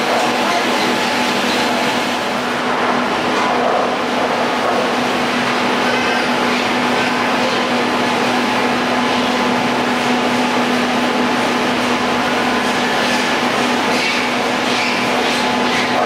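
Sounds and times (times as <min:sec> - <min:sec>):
chairlift mechanical hum: 0:00.0 - 0:16.0.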